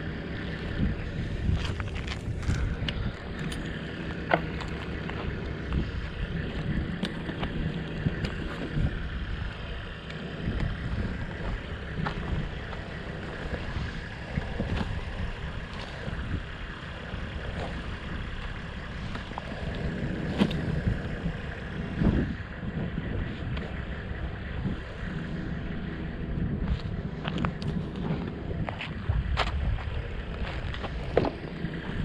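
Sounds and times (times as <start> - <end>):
passing vehicles rumble: 0.0 - 32.0.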